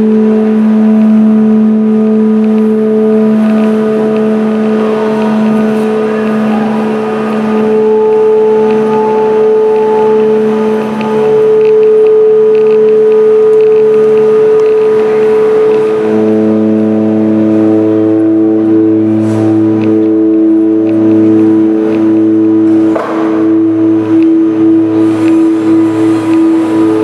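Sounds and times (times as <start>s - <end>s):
droning electric guitar tones: 0.0s - 27.0s.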